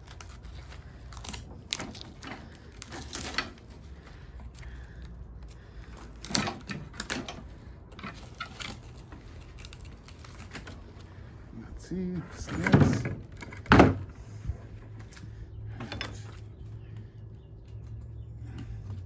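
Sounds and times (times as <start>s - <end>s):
hand work clicks and scrapes: 0.0s - 11.2s, 14.9s - 19.0s.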